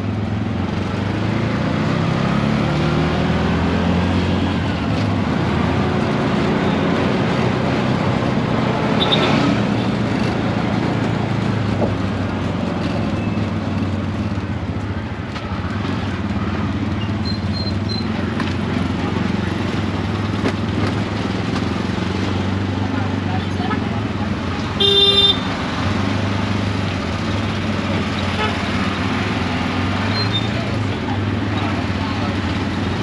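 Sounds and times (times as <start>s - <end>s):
auto-rickshaw engine running: 0.0s - 33.0s
road noise: 0.0s - 33.0s.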